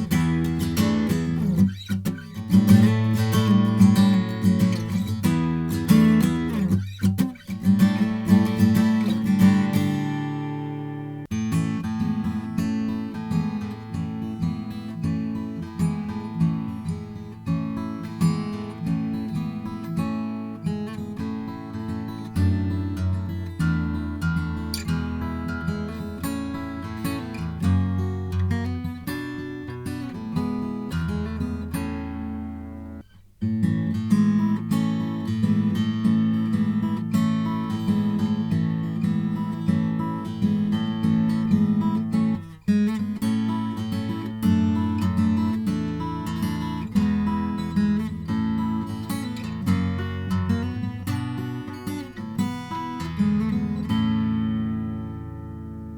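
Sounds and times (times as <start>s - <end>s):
acoustic guitar strummed and picked: 0.0s - 55.9s.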